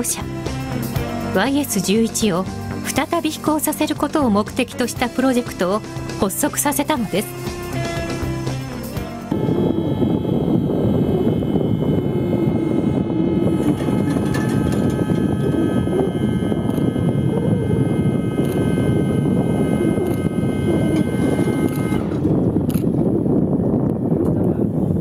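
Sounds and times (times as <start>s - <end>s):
high whining tones: 0.0s - 25.0s
turbine engine roar: 0.0s - 25.0s.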